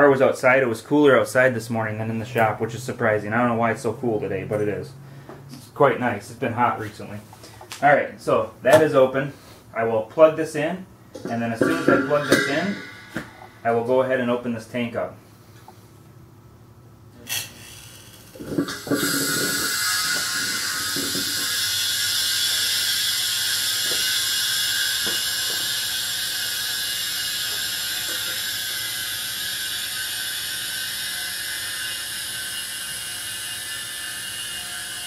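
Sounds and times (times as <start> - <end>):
compressor running with hiss and hum: 0.0 - 35.0.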